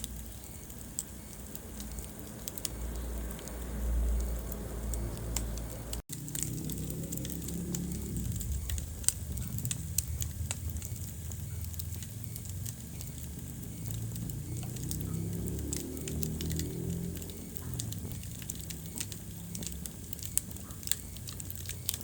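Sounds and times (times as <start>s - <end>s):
fire crackles and pops: 0.0s - 22.0s
fire rumbling: 0.0s - 22.0s.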